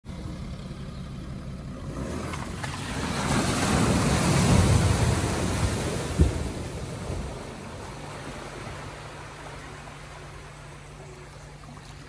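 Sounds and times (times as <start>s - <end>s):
car engine rumble: 0.0s - 12.0s
water splashing from car wheels: 1.7s - 12.0s.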